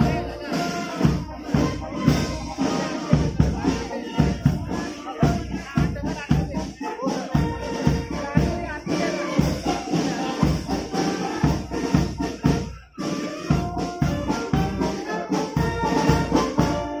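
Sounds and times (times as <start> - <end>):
brass band playing a march: 0.0 - 17.0
steady drumbeat: 0.0 - 17.0.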